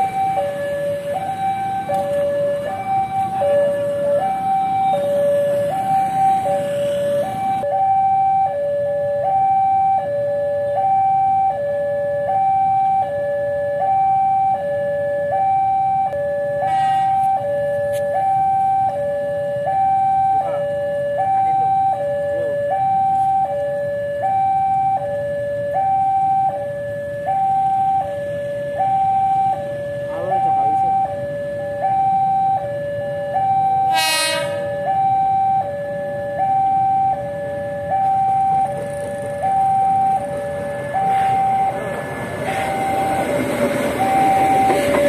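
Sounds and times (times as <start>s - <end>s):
two-tone crossing alarm: 0.0s - 45.0s.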